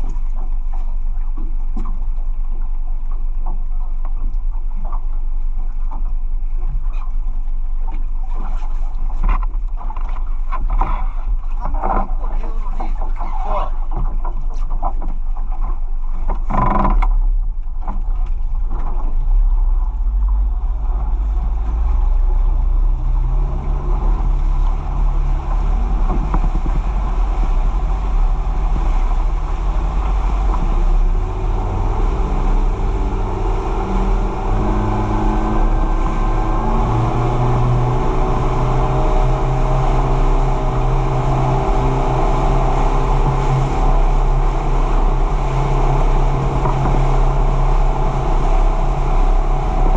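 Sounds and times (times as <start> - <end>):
boat engine running: 0.0 - 49.9
water rushing along hull: 0.0 - 49.9.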